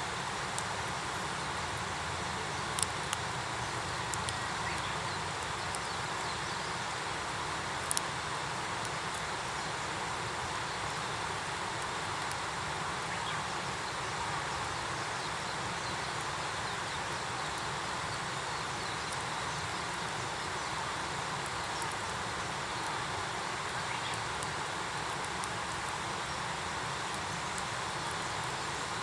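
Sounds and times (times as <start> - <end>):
campfire hissing: 0.0 - 29.0
fire crackles and pops: 0.0 - 29.0.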